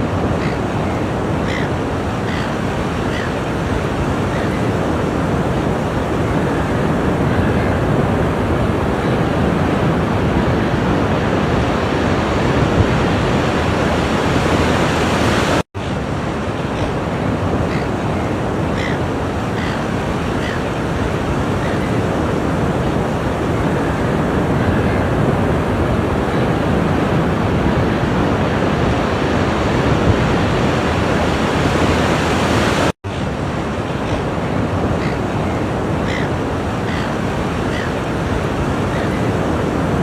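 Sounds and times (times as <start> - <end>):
waves breaking on shore: 0.0 - 40.0.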